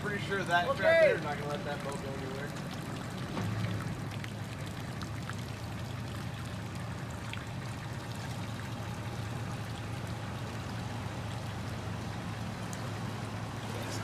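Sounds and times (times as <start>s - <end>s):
vehicle engine running low hum: 0.0s - 14.0s.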